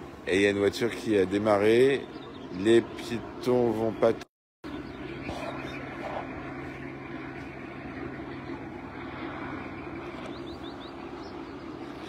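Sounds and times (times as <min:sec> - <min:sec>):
low engine drone: 0:00.0 - 0:12.0
bird chirping: 0:00.8 - 0:12.0.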